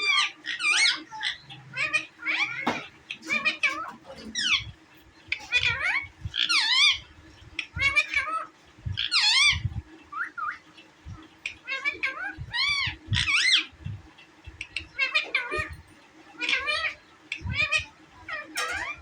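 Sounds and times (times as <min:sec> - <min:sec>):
parrot squawking: 0:00.0 - 0:10.6, 0:11.5 - 0:13.7, 0:14.6 - 0:15.8, 0:16.4 - 0:19.0.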